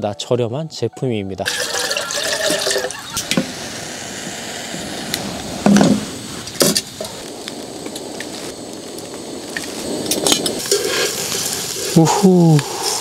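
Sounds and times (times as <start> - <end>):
gas stove burner hiss: 1.5 - 13.0.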